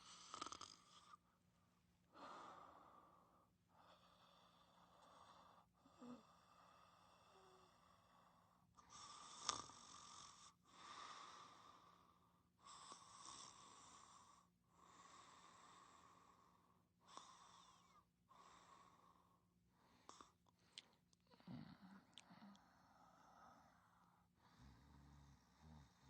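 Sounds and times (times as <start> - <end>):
faint snoring breaths: 0.0 - 1.2, 2.1 - 26.0.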